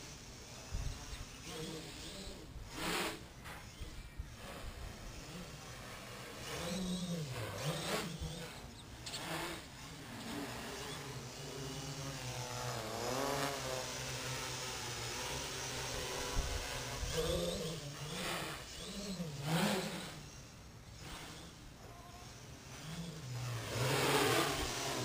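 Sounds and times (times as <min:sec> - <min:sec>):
quadcopter propellers buzzing: 0:00.0 - 0:25.0.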